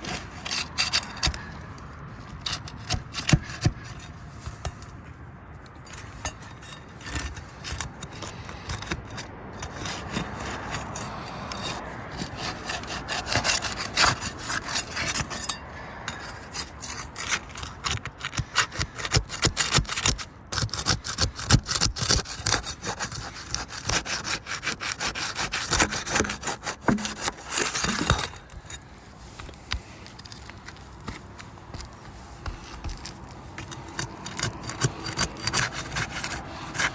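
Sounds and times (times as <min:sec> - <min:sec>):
metal bar scraping under shingles: 0:00.0 - 0:36.9.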